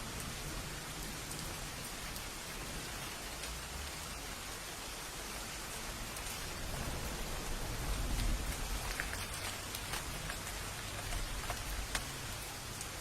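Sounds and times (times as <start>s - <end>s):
sharp water drips: 0.0s - 13.0s
steady rain: 0.0s - 13.0s.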